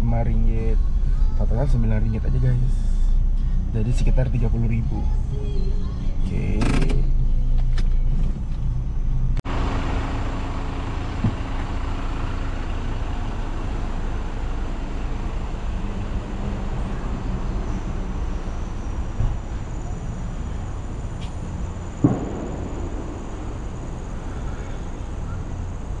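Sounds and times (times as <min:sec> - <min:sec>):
car engine rumbling: 0:00.0 - 0:26.0
moving vehicle noise: 0:00.0 - 0:26.0.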